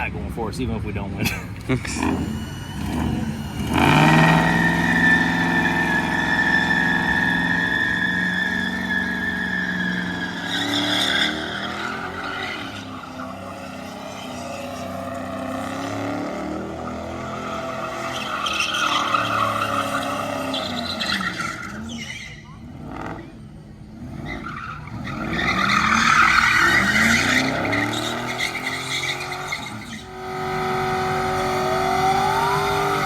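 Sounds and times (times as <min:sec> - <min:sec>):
car engine at high revs: 0:00.0 - 0:33.0
tyres spinning: 0:01.4 - 0:33.0.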